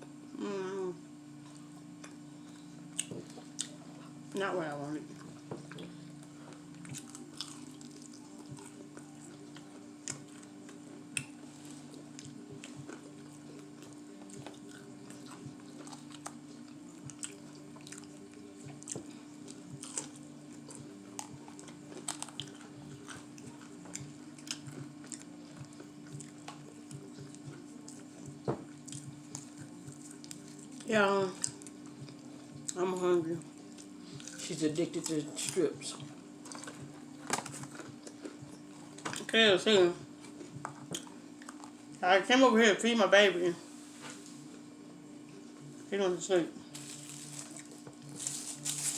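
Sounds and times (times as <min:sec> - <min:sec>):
steady low hum: 0:00.0 - 0:48.9
person chewing crunchy food: 0:01.4 - 0:04.2, 0:05.2 - 0:32.8, 0:33.6 - 0:39.3, 0:40.1 - 0:42.0, 0:46.7 - 0:48.9.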